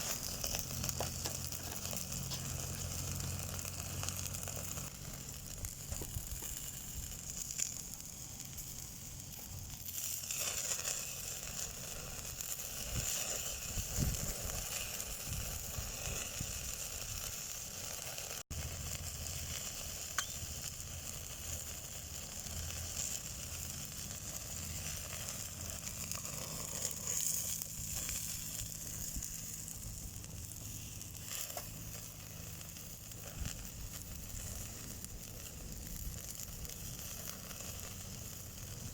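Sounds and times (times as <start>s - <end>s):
coals crackling: 0.0s - 38.9s
food sizzling on a grill: 0.0s - 38.9s.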